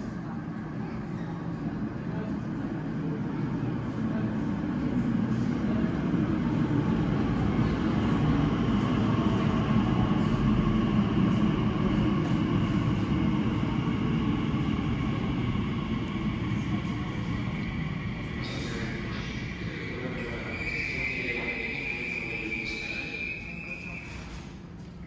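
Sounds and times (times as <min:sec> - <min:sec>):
electric train rumbling: 0:01.7 - 0:25.0.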